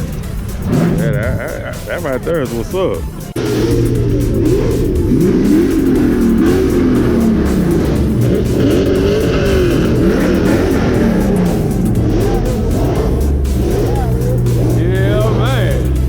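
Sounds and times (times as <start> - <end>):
car engine revving: 0.0 - 16.0
music playing: 0.0 - 16.0.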